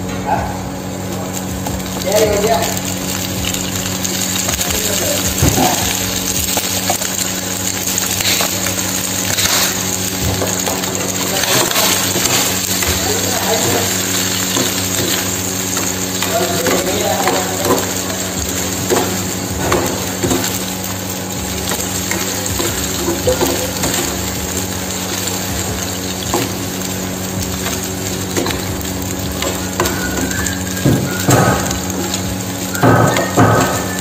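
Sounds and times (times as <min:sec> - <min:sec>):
food sizzling in a frying pan: 0:00.0 - 0:34.0.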